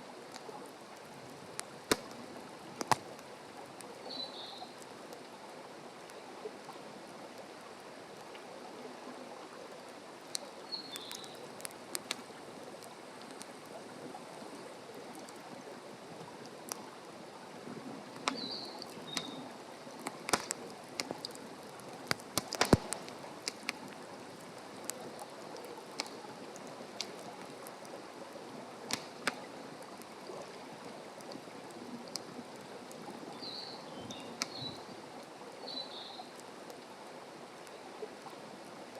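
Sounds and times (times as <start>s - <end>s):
campfire crackling and popping: 0.1s - 6.2s, 9.8s - 35.4s.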